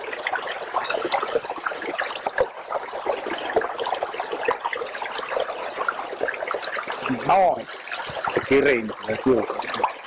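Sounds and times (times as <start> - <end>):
creek babbling: 0.0 - 10.0.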